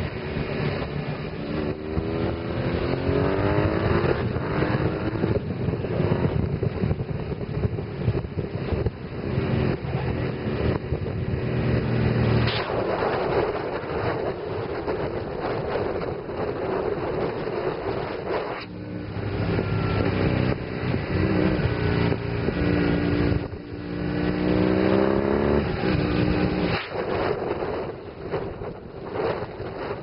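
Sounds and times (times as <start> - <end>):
motorcycle engine accelerating: 0.0 - 30.0
wind noise on microphone: 0.0 - 30.0.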